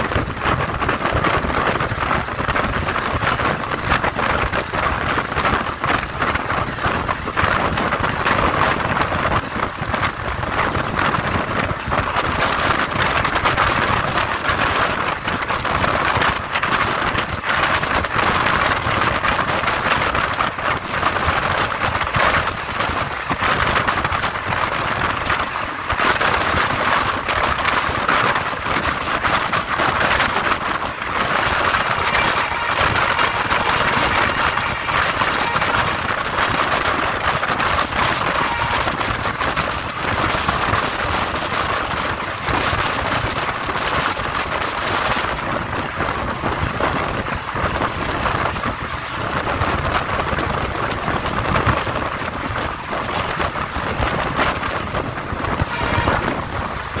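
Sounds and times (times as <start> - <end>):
train wheels rushing on rails: 0.0 - 57.0
wind on microphone: 0.0 - 57.0.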